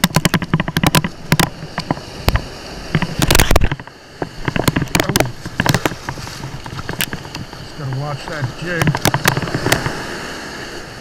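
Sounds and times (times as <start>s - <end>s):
cluster of clicks: 0.0s - 10.0s.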